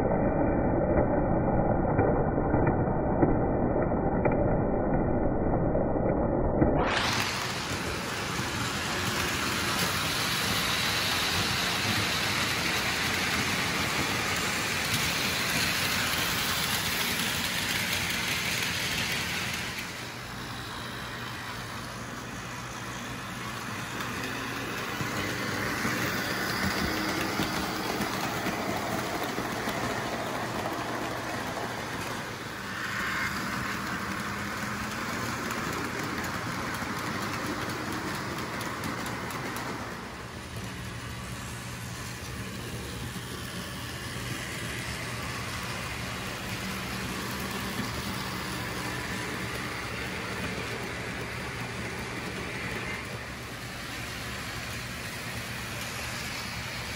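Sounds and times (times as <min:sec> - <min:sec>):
wheels rolling over track: 0:06.7 - 0:56.9
model train motors whirring: 0:06.9 - 0:56.9.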